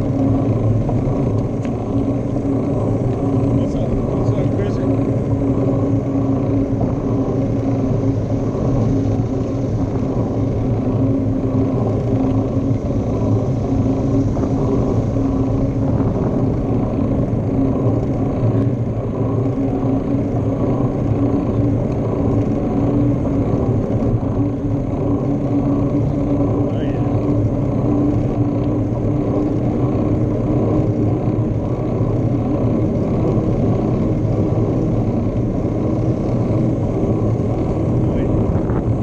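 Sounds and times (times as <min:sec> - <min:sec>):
constant low hum: 0:00.0 - 0:39.0
wind noise: 0:00.0 - 0:39.0.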